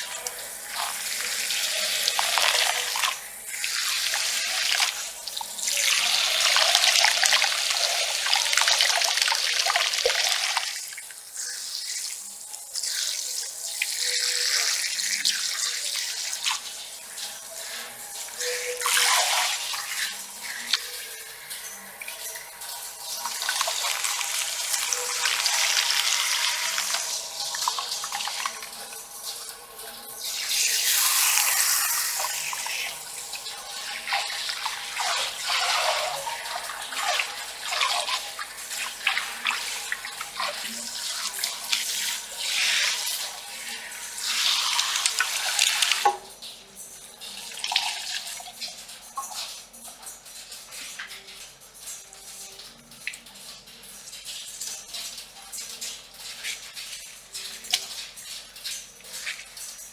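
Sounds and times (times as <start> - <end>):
shower sprayer water splashing: 0.0 - 59.9
water dripping: 0.0 - 59.9.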